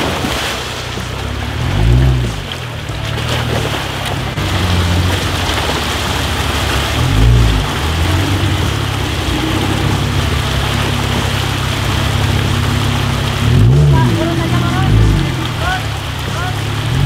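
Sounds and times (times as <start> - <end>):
car engine running under load: 0.0 - 17.0
tyres splashing through creek: 0.0 - 17.0.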